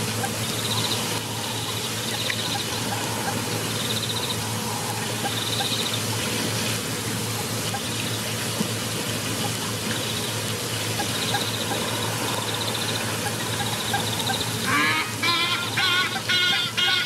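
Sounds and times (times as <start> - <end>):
steady hiss: 0.0 - 15.8
low hum: 0.0 - 16.3.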